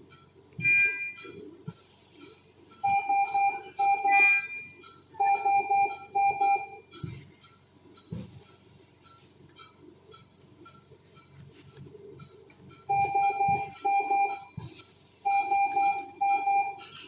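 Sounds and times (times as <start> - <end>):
medical monitor beeping: 0.0 - 17.0
pulsing alarm tone: 0.0 - 17.0.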